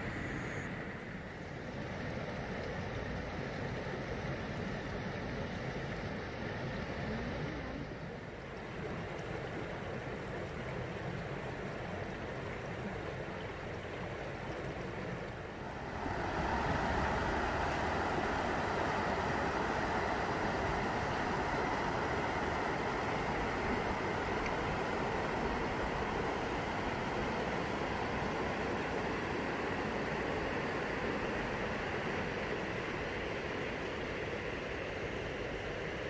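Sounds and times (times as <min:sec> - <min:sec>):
open air rumble and hiss: 0:00.0 - 0:36.0
river rushing over weir: 0:05.7 - 0:36.0.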